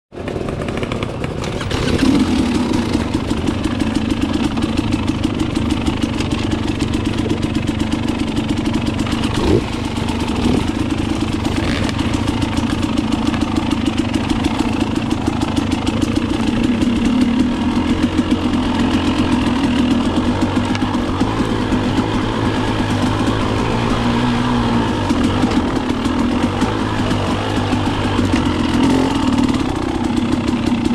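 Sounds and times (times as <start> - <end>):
two-stroke motorcycle engine running: 0.1 - 30.9.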